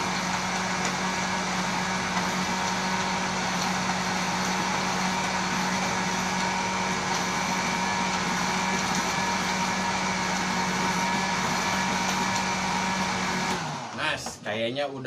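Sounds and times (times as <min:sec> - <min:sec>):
blender motor whirring: 0:00.0 - 0:14.3.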